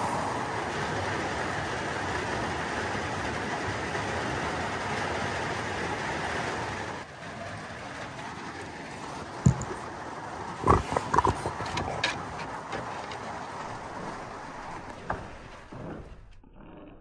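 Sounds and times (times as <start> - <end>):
steady rain falling: 0.0 - 16.2.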